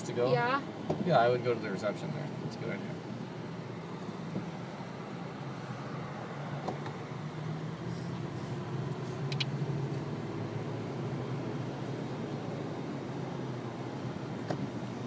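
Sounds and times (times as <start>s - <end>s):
car engine and road hum: 0.0s - 15.0s.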